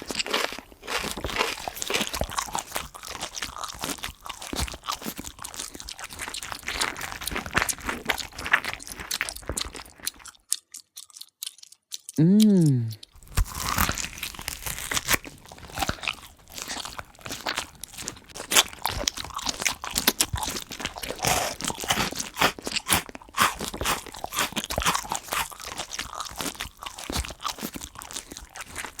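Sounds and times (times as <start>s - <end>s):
insect crunching on shell: 0.0s - 29.0s.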